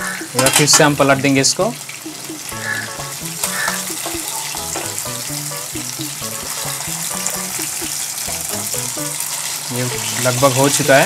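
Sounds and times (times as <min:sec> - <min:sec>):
background music: 0:00.0 - 0:11.0
meat sizzling in oil: 0:00.0 - 0:11.0.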